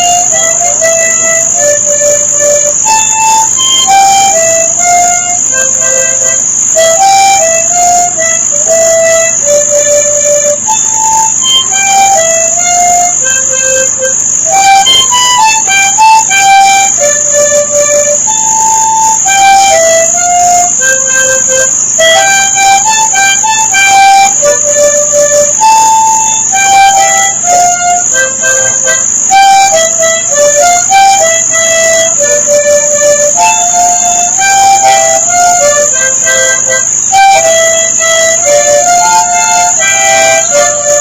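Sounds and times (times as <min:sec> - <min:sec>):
high-pitched hiss: 0:00.0 - 0:41.0
slow instrumental melody: 0:00.0 - 0:41.0.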